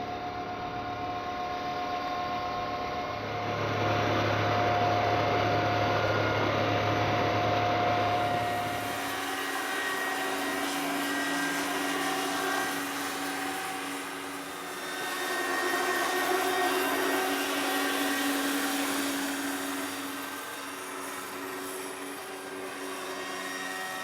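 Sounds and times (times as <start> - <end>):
model helicopter whine with rotor noise: 0.0 - 24.0.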